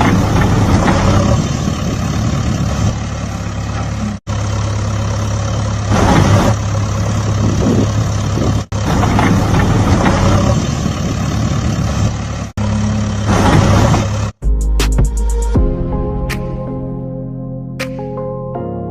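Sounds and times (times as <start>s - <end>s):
engine humming: 0.0s - 16.6s.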